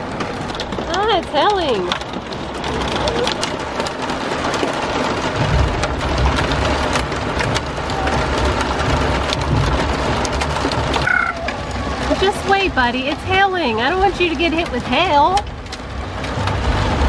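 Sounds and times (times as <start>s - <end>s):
hail and rain on car roof: 0.0s - 17.0s
low rumble: 0.0s - 17.0s.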